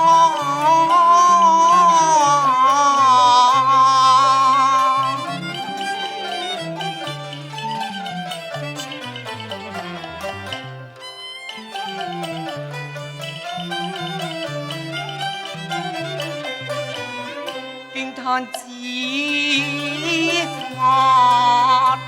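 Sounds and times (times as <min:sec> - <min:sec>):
wavering high sung note: 0:00.0 - 0:10.5, 0:11.5 - 0:22.0
traditional band with bowed strings: 0:00.0 - 0:22.0.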